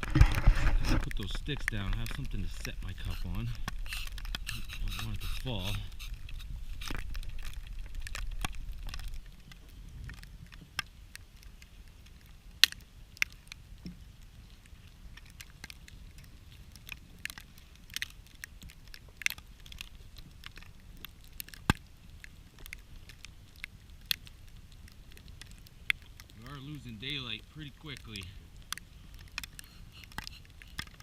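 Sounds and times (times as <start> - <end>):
faint low rumble: 0.0 - 29.4
campfire crackling and popping: 0.0 - 31.0.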